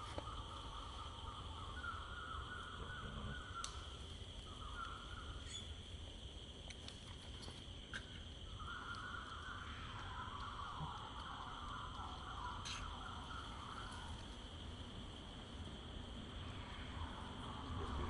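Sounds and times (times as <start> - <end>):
insect chirring: 0.0 - 18.0
insect high drone: 0.0 - 18.0.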